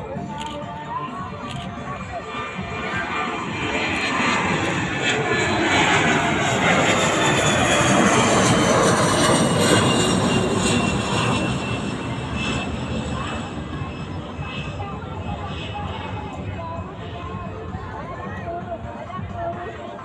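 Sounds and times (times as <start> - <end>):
airliner passing by: 0.0 - 20.0.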